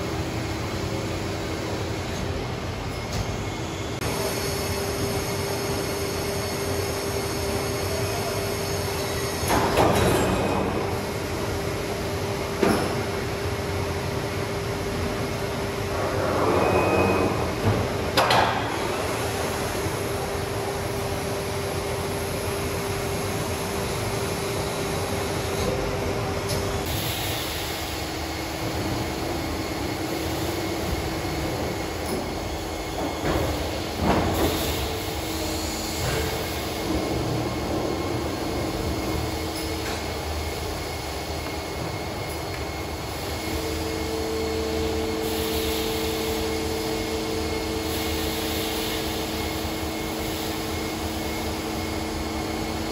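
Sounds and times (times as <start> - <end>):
machine din with humming whine: 0.0 - 52.9.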